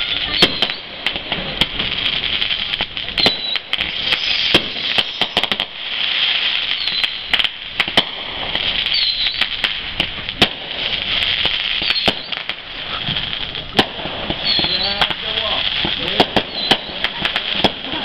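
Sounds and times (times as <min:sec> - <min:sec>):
fireworks bangs and pops: 0:00.0 - 0:18.0
high crackling hiss: 0:00.0 - 0:18.0.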